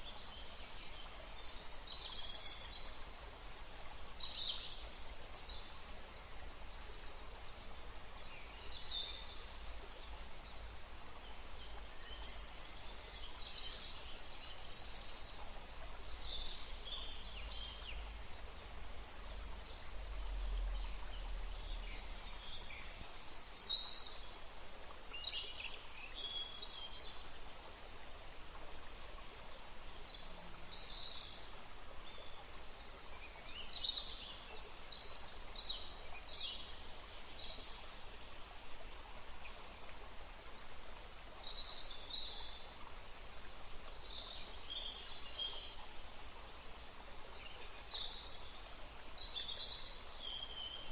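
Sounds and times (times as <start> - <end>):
background hiss: 0.0 - 50.9.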